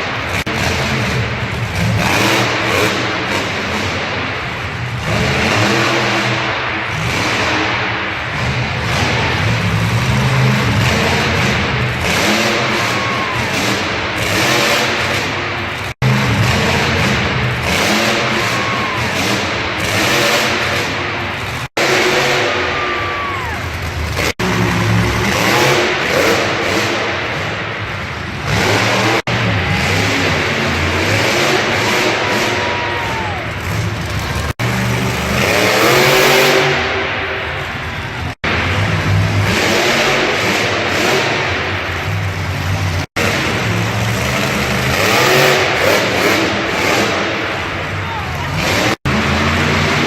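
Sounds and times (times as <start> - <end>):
vehicle engines revving: 0.0 - 50.0.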